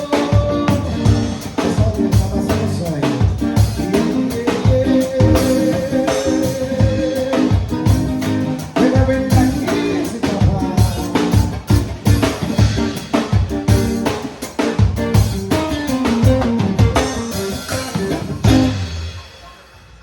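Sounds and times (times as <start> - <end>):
person singing: 0.0 - 12.5, 16.0 - 19.7
drum kit beat: 0.0 - 20.0
guitar: 0.0 - 20.0.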